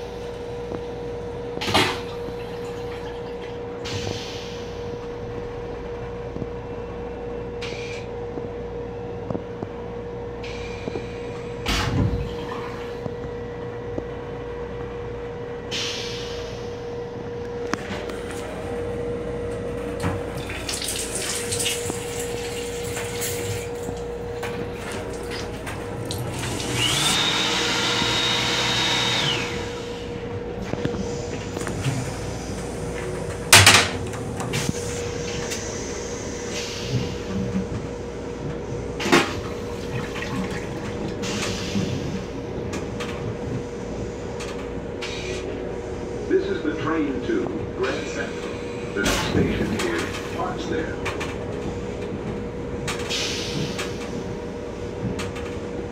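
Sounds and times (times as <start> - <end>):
train interior hum and rumble: 0.0 - 55.9.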